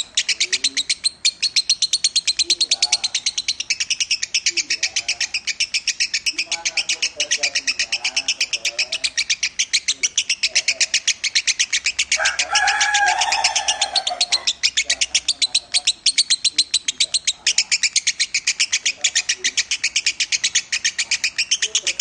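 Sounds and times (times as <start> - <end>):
lovebird rapid high chirps: 0.0 - 22.0.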